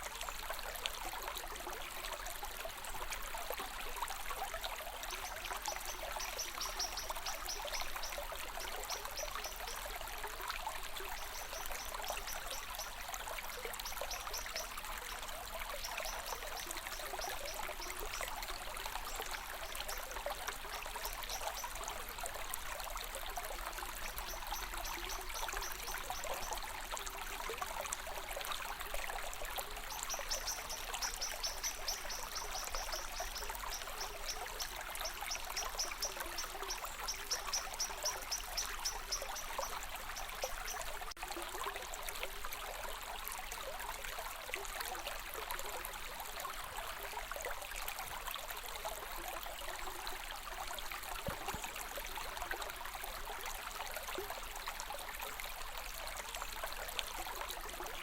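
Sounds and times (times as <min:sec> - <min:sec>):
stream of water running: 0:00.0 - 0:58.0.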